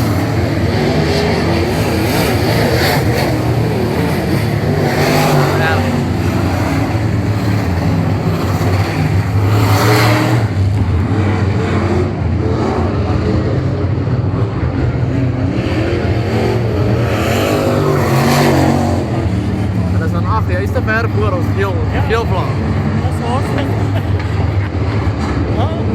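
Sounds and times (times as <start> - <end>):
race car engine running hard: 0.0 - 25.9.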